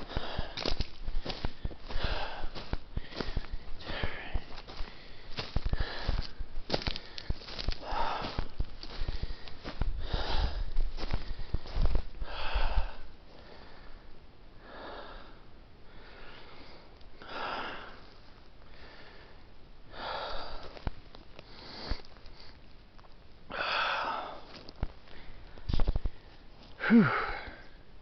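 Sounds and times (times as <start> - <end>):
person breathing hard: 0.0 - 20.8, 21.4 - 22.6, 23.5 - 27.8.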